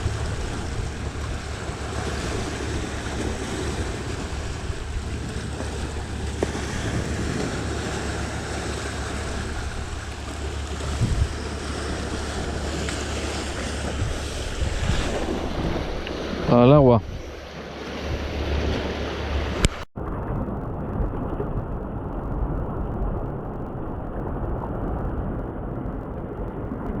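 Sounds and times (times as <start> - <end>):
sea waves washing in: 0.0 - 27.0
wind rumbling on microphone: 0.0 - 27.0.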